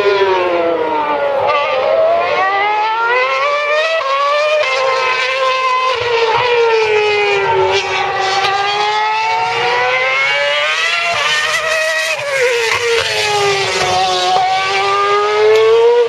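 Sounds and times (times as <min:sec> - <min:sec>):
racing car engine revving: 0:00.0 - 0:16.0.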